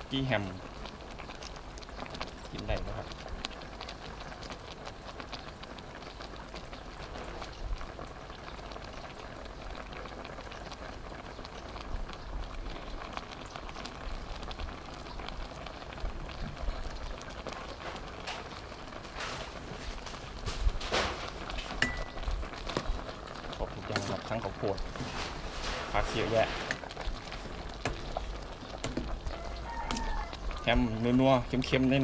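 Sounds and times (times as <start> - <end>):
soup simmering in a pot: 0.0 - 32.0.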